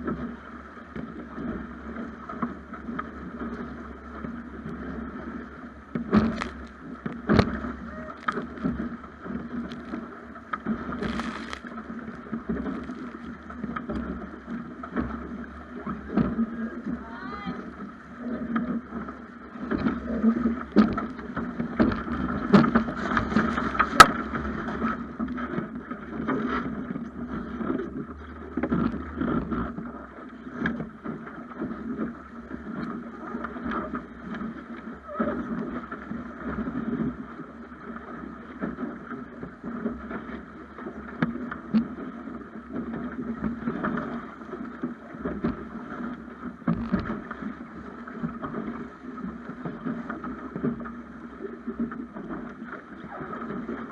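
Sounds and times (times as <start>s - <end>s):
water splashing along boat hull: 0.0s - 53.9s.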